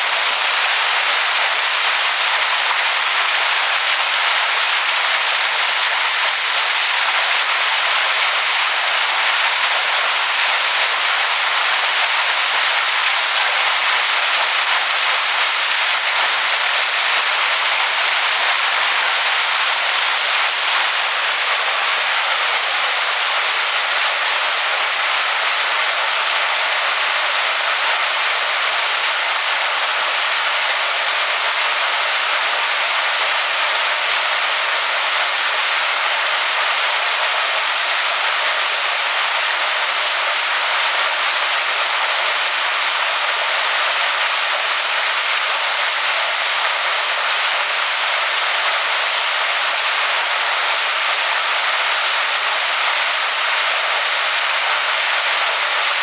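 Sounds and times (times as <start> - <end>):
waterfall splashing onto rocks: 0.0 - 56.0.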